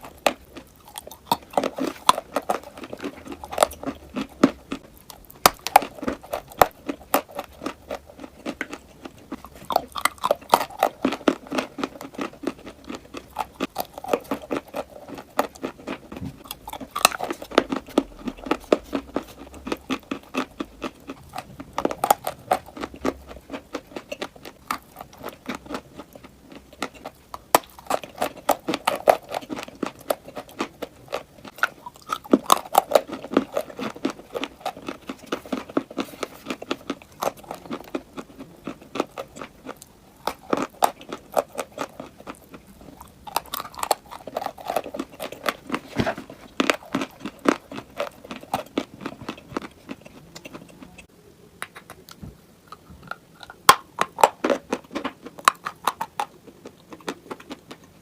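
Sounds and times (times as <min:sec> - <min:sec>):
person chewing crunchy chalk: 0:00.0 - 0:51.1, 0:51.7 - 0:58.0.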